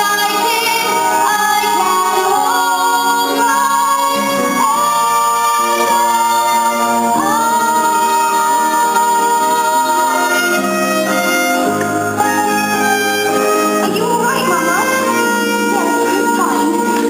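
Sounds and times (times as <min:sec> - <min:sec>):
instrumental accompaniment: 0:00.0 - 0:17.0
person singing: 0:00.0 - 0:17.0.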